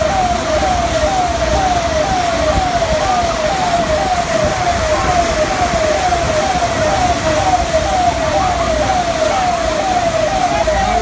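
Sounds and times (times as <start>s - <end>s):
electronic siren falling tone: 0.0s - 11.0s.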